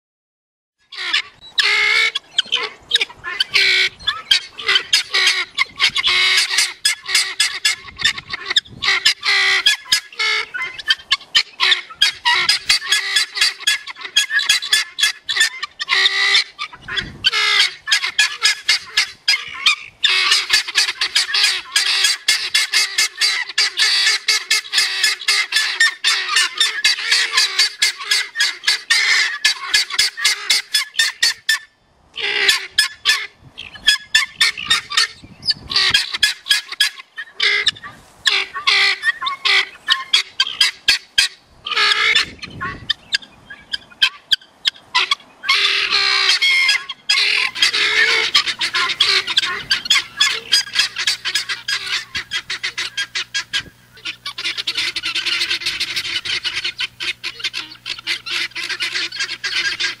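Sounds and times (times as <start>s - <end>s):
guinea fowl chattering calls: 0.9s - 60.0s.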